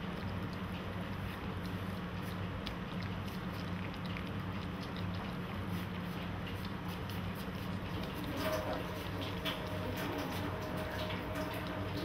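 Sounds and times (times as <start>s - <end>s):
puppies lapping and chewing: 0.0s - 12.0s.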